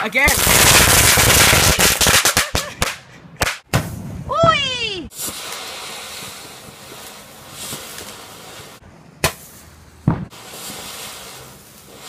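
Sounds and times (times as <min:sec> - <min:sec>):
fireworks sparks hissing: 0:00.0 - 0:02.8, 0:05.1 - 0:12.0
fireworks bangs: 0:00.0 - 0:12.0.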